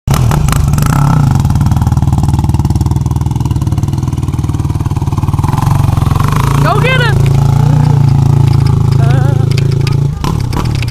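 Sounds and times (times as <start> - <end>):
quad bike engine chugging: 0.1 - 10.9.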